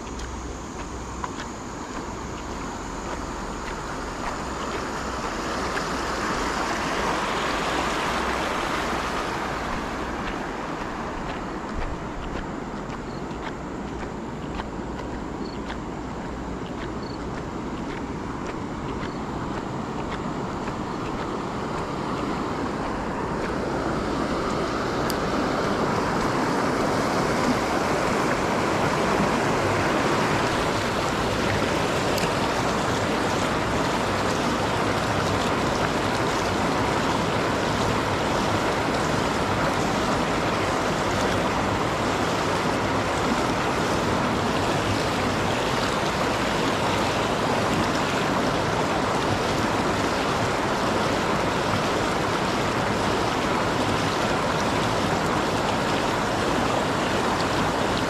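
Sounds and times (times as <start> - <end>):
water rushing over a weir: 0.0 - 58.0.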